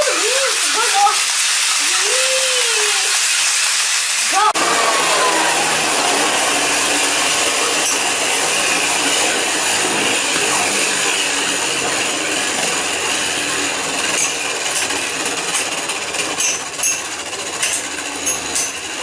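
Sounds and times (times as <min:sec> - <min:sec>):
spinning tops whirring: 0:00.0 - 0:19.0.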